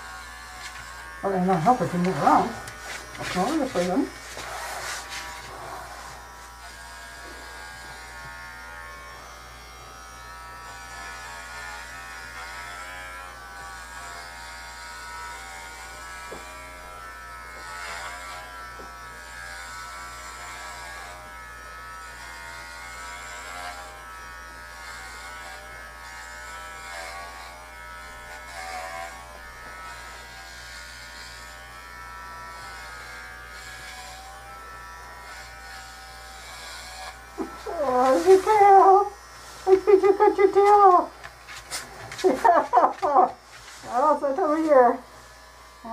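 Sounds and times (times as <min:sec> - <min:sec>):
electric pet clippers buzzing: 0:00.0 - 0:45.9.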